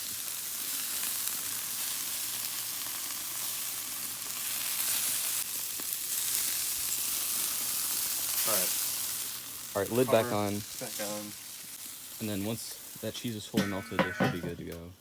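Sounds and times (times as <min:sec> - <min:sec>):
burgers sizzling on a grill: 0:00.0 - 0:15.0.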